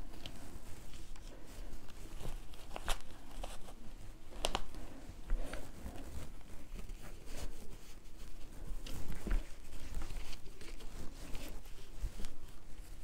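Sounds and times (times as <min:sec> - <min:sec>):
fabric rubbing and rustling: 0:00.0 - 0:13.0.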